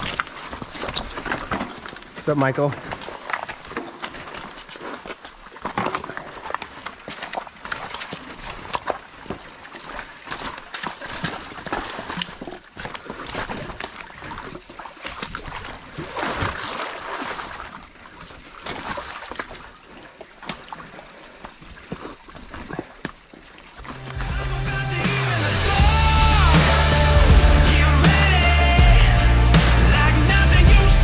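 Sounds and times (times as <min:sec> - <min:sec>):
water sloshing: 0:00.0 - 0:28.8.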